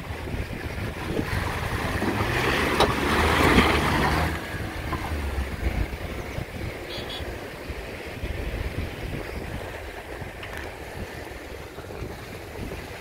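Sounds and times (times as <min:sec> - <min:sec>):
suv engine pulling under load: 0:00.0 - 0:13.0
tyres churning in mud: 0:00.0 - 0:13.0
wind noise on microphone: 0:00.0 - 0:13.0.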